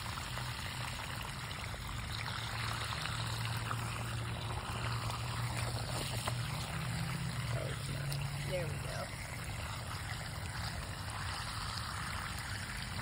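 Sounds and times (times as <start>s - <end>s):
water pouring onto soil: 0.0s - 13.0s.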